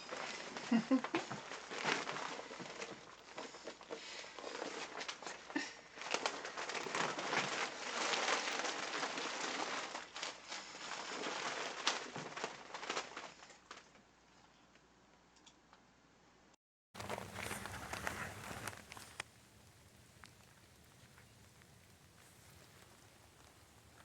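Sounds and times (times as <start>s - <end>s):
plastic poncho crinkling: 0.0s - 14.0s, 17.0s - 24.0s.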